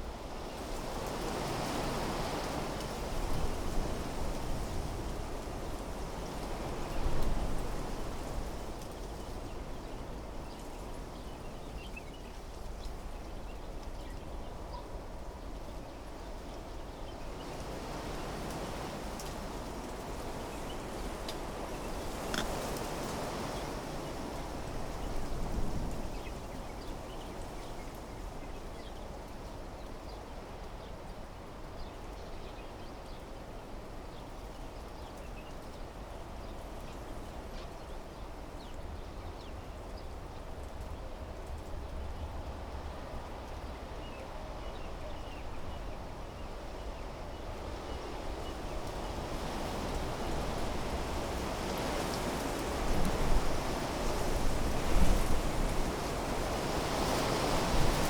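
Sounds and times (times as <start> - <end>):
wind blowing through trees: 0.0 - 58.0.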